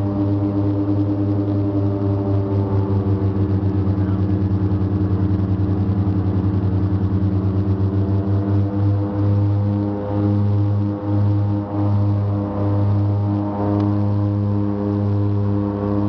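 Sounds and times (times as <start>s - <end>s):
propeller engine drone: 0.0s - 16.0s.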